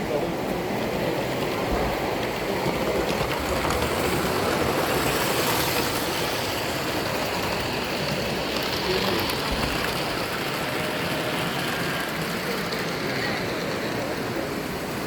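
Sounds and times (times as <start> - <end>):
miniature train rumbling on track: 0.0 - 15.0.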